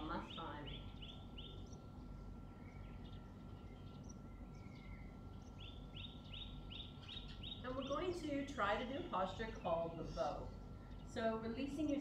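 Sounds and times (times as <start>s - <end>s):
bird chirping: 0.0s - 11.2s
low background hum: 0.0s - 12.0s.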